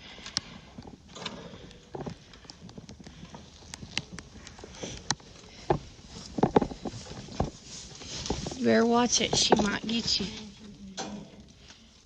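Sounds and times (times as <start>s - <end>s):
goat hooves tapping: 0.0s - 10.6s.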